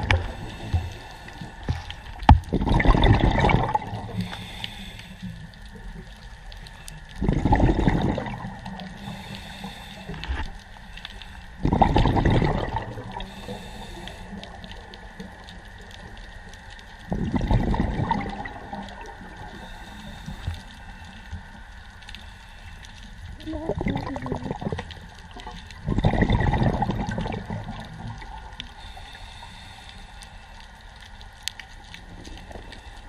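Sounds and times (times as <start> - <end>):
underwater exhaust bubbles gurgling: 0.0 - 33.0.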